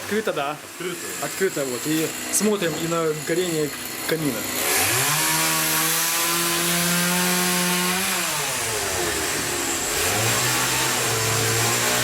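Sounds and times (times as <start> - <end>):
power saw cutting: 0.0 - 12.0.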